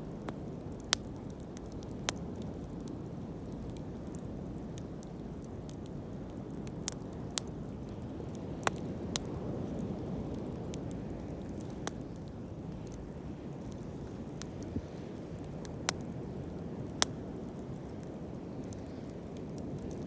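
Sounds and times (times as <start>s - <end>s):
fire crackles and pops: 0.0s - 20.0s.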